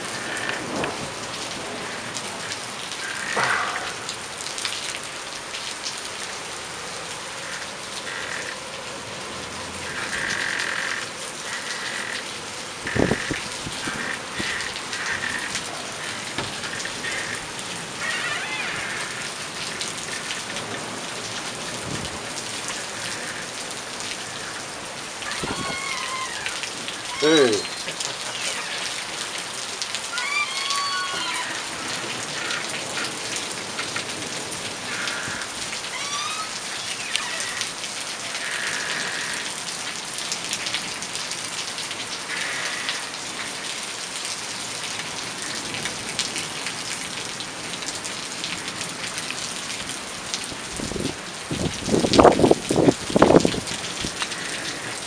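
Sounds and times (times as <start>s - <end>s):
heavy rain on street: 0.0s - 55.0s.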